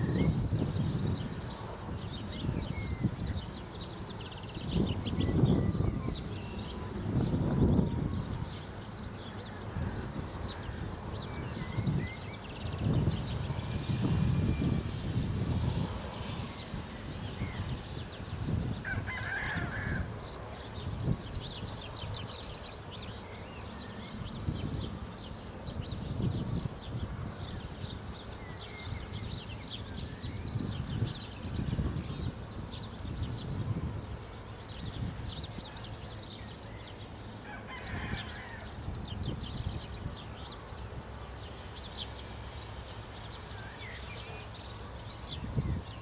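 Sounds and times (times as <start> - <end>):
small birds chirping: 0.0 - 46.0
wind rumbling on microphone: 0.0 - 46.0.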